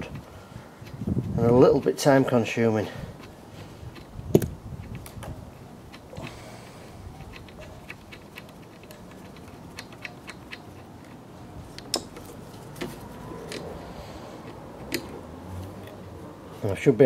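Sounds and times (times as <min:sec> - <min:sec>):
hands clicking and tapping parts: 0:00.0 - 0:02.4, 0:03.1 - 0:16.1.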